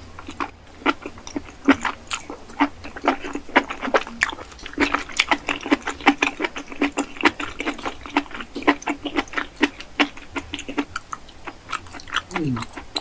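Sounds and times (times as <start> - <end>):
wet chewing clicks and smacks: 0.2 - 13.0.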